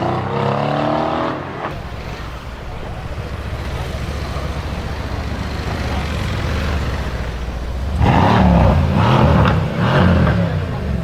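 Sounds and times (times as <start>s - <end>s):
car engine rumbling: 1.7s - 11.0s.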